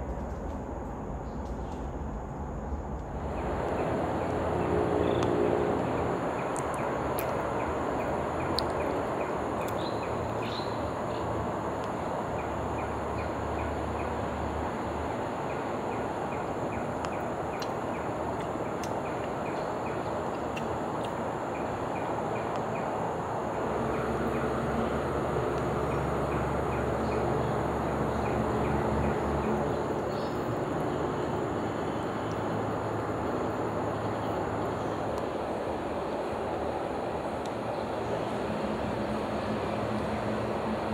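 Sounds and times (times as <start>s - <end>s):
distant vehicles rumbling: 0.0s - 40.9s.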